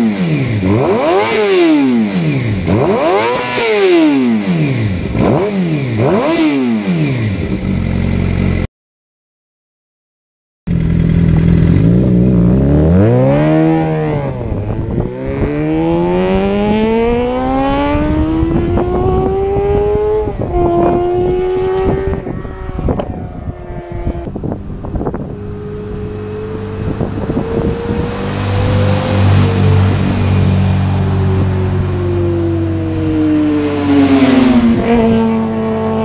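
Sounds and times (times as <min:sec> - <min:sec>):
motorcycle engine revving: 0:00.0 - 0:08.7, 0:10.7 - 0:36.0.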